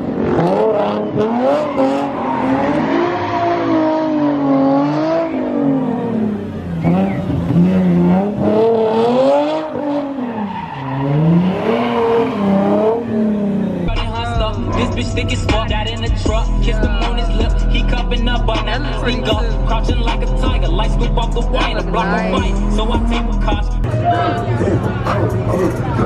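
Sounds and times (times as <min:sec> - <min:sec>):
car engine revving: 0:00.0 - 0:26.0
tyres skidding: 0:00.0 - 0:26.0.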